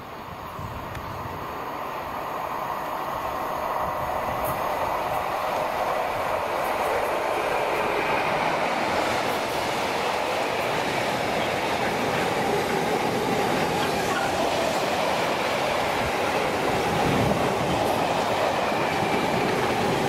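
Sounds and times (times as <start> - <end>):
diesel locomotive passing: 0.0 - 20.0.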